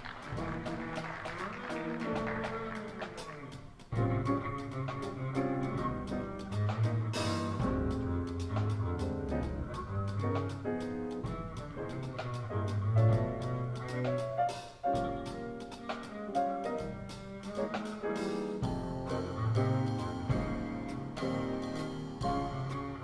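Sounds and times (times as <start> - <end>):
piano: 0.0 - 23.0
alto saxophone: 0.4 - 23.0
plucked upright bass: 1.6 - 18.0, 18.6 - 23.0.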